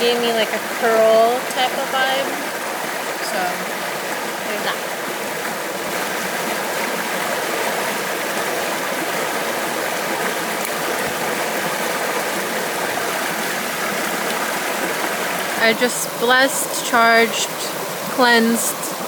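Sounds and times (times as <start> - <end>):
stream water rushing over rocks: 0.0 - 19.0.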